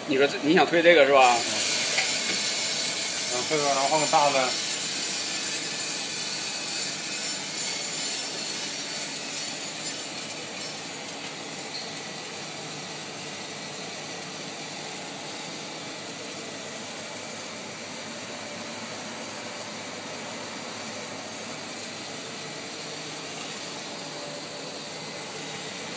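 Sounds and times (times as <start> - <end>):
mechanical hum of roaster: 0.0 - 25.9.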